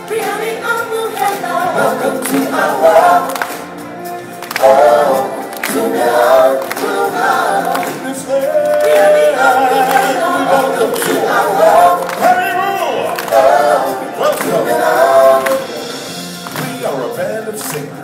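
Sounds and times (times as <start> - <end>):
backing music: 0.0 - 18.0
choir singing: 0.0 - 18.0.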